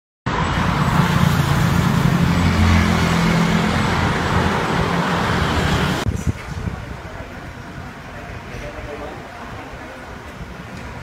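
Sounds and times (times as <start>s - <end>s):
road noise rushing: 0.3s - 11.0s
vehicle engine hum: 0.3s - 11.0s.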